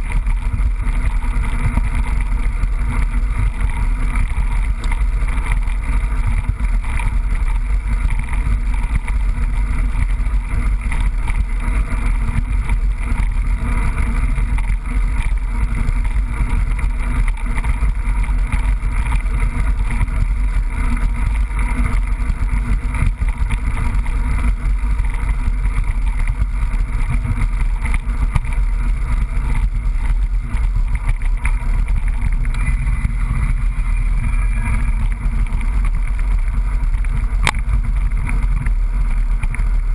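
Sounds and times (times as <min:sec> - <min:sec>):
bike low rumble: 0:00.0 - 0:39.9.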